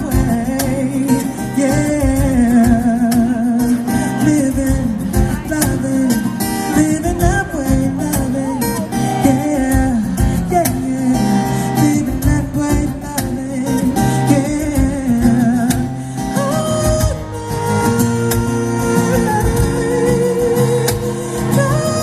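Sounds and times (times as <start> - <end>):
live pop music: 0.0 - 22.0
wordless vocals: 0.0 - 22.0.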